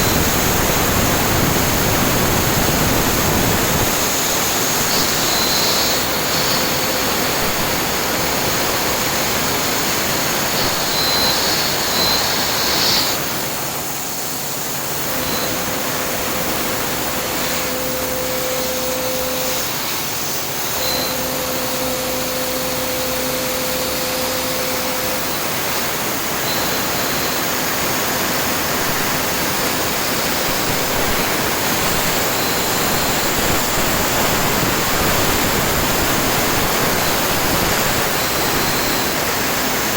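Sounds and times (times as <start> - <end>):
milling machine rushing hiss: 0.0 - 39.9
steady machine hum: 0.0 - 39.9.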